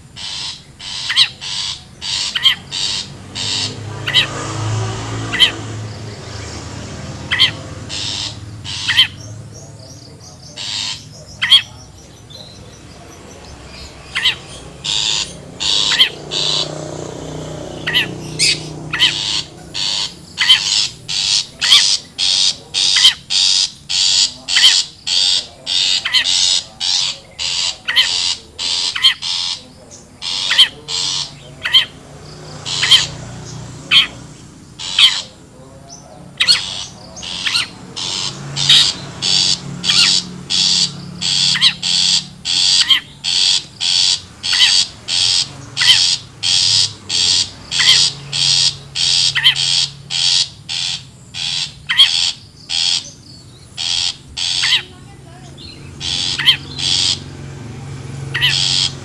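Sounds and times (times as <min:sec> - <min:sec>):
bird giving harsh scratchy calls: 0:00.0 - 0:59.0.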